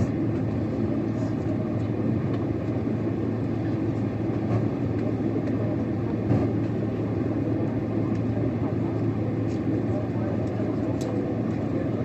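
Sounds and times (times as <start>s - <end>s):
airliner cabin rumble: 0.0s - 12.0s
constant hum: 0.0s - 12.0s.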